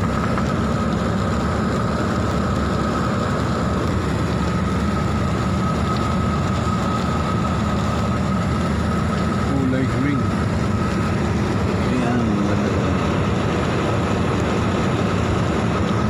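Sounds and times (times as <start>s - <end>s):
vehicle driving on wet road: 0.0s - 16.0s.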